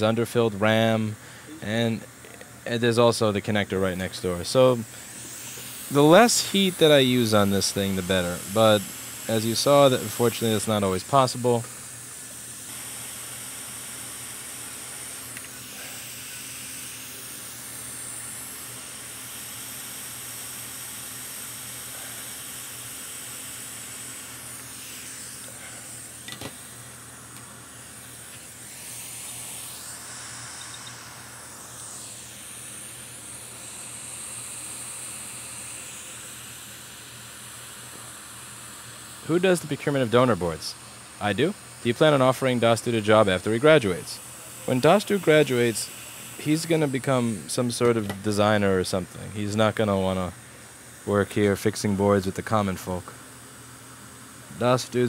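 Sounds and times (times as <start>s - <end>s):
hot air station hiss: 0.0s - 55.0s.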